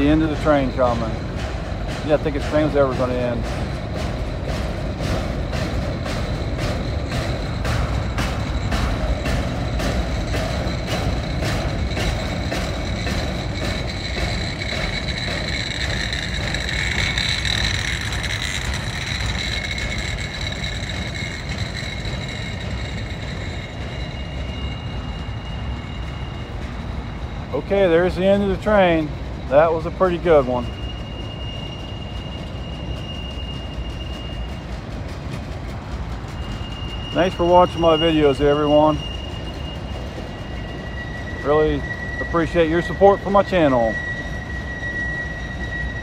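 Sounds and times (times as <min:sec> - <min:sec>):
freight train rumbling past: 0:00.0 - 0:46.0
high wheel squeal: 0:00.0 - 0:46.0
wheels clicking over rails: 0:00.0 - 0:46.0.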